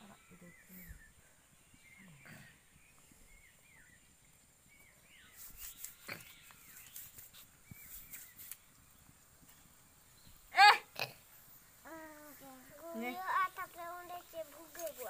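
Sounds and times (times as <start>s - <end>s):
faint bird chirps: 0.0s - 10.7s, 11.3s - 15.0s.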